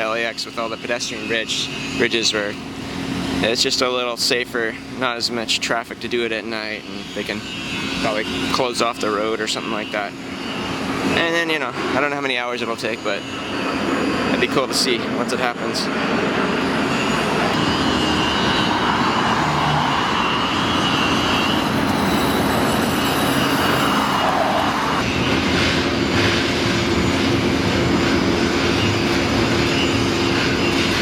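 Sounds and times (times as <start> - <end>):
loud engine noise: 0.0 - 31.0.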